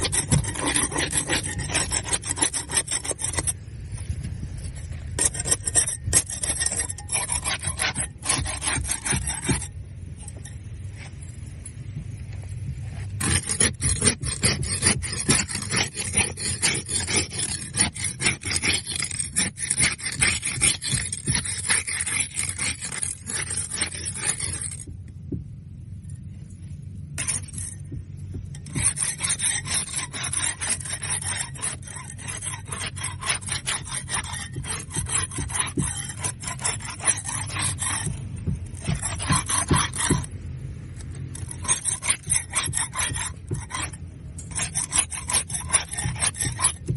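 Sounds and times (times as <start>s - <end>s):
barnacles scraped off boat hull: 0.0s - 11.2s, 12.9s - 24.9s, 27.2s - 46.9s.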